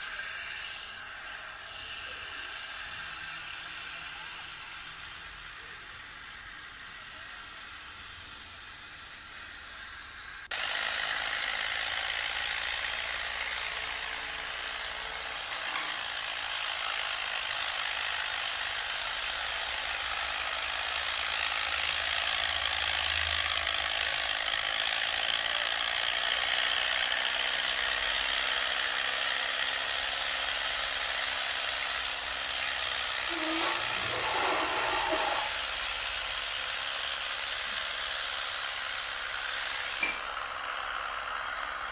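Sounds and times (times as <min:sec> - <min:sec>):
tractor running under load: 0:00.0 - 0:41.9.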